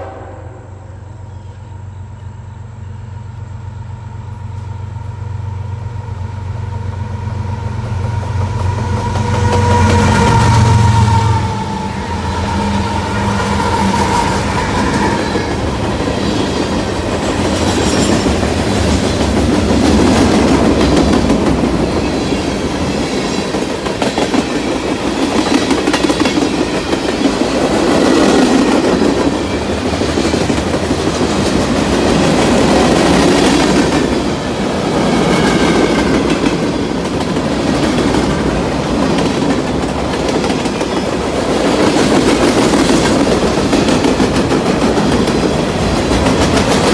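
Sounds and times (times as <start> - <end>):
diesel locomotive drone: 0.0 - 46.9
train wheel clatter and rumble: 6.7 - 46.9.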